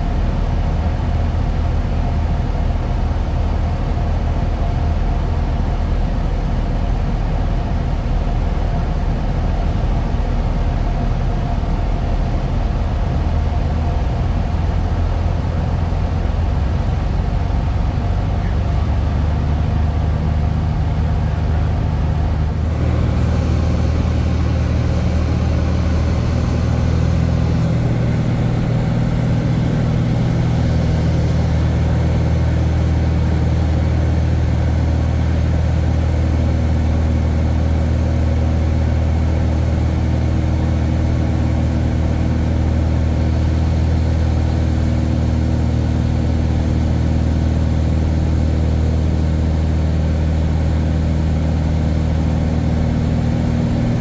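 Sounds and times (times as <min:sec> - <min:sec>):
propeller airplane engine drone: 0:00.0 - 0:54.0.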